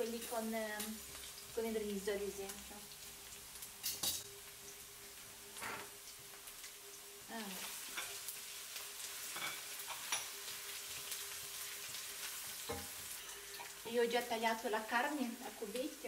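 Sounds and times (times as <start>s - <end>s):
onion sizzling in a pan: 0.0s - 16.0s.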